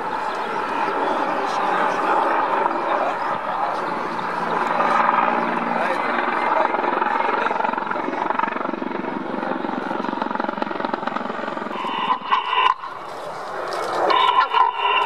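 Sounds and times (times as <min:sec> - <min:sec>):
helicopter turbine and rotor noise: 0:00.0 - 0:15.0.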